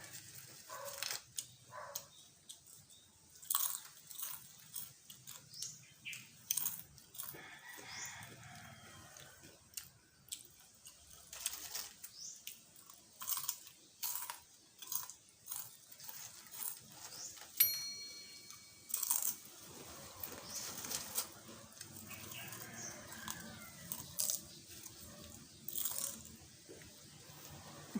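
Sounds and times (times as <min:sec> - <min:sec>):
crunching and chewing chips: 0:00.0 - 0:17.6, 0:18.2 - 0:27.9.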